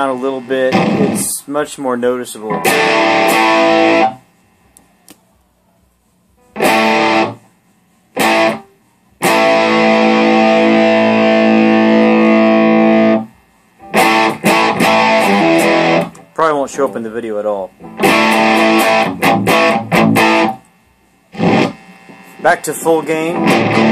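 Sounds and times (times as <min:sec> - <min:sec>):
distorted electric guitar chords: 0:00.0 - 0:01.3, 0:02.4 - 0:04.3, 0:06.4 - 0:07.4, 0:08.2 - 0:20.7, 0:21.3 - 0:23.9.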